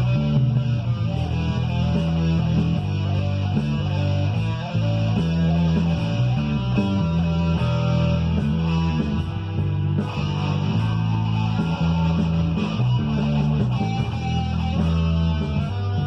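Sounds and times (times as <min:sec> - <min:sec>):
bass guitar: 0:00.0 - 0:16.0
electric guitar: 0:00.0 - 0:16.0
steady drumbeat: 0:00.0 - 0:16.0.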